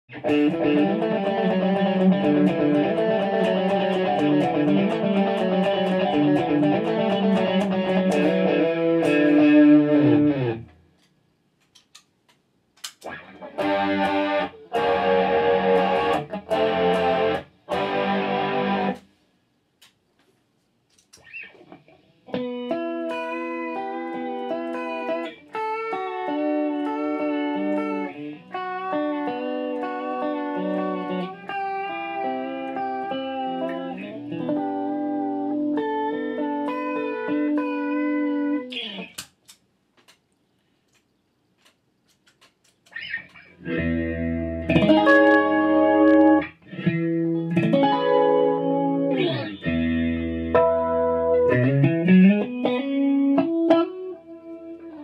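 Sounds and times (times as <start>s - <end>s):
choppy guitar chords: 0.1s - 10.8s, 13.0s - 19.1s, 21.3s - 39.2s, 42.9s - 55.0s
clean picked guitar notes: 0.1s - 10.8s, 13.0s - 19.0s, 22.3s - 39.1s, 42.9s - 55.0s
distorted electric guitar: 0.1s - 10.8s, 13.0s - 19.1s, 21.2s - 39.2s, 42.9s - 55.0s.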